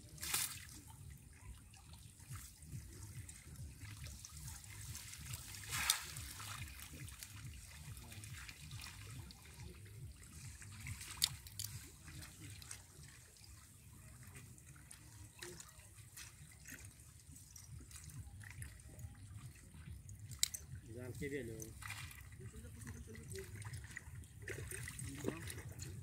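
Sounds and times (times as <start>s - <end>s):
rush of water: 0.0s - 26.0s
water trickling and dripping: 0.0s - 26.0s.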